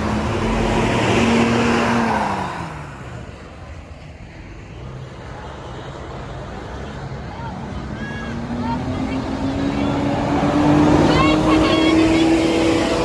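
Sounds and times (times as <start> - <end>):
bus passing by: 0.0 - 13.0
traffic noise: 0.0 - 13.0.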